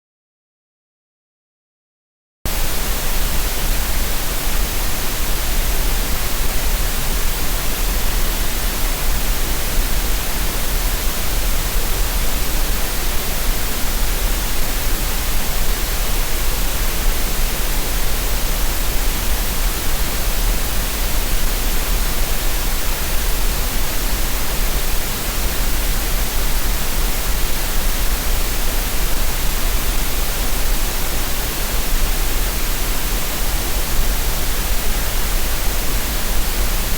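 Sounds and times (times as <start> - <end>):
steady noise hiss: 2.5 - 36.9.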